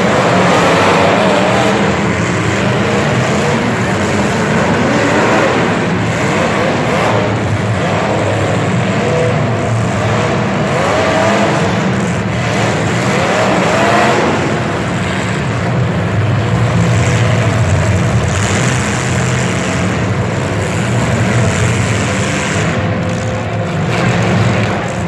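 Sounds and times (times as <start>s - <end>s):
vehicle engines revving: 0.0s - 25.0s.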